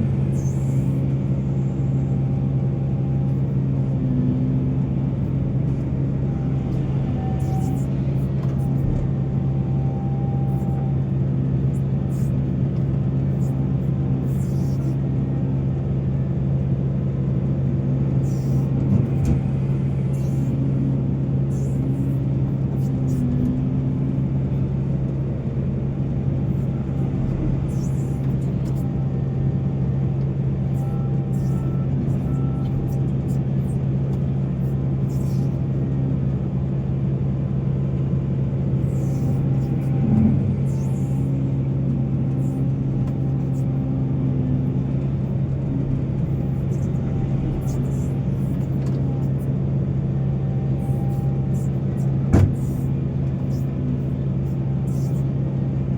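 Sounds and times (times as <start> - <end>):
heavy diesel engine droning: 0.0 - 55.9.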